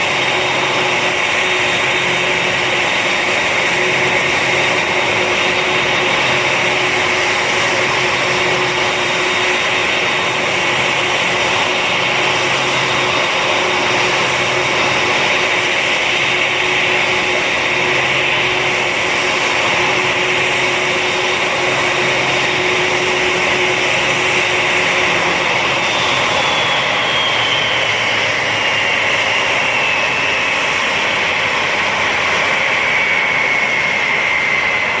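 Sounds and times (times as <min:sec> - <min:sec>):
jet engine rush: 0:00.0 - 0:35.0.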